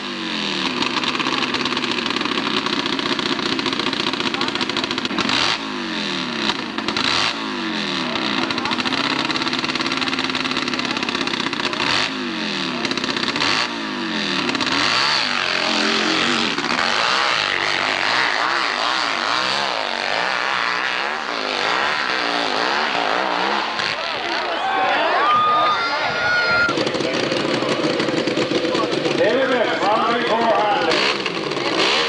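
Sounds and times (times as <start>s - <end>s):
motorcycle engine revving hard: 0.0s - 32.0s.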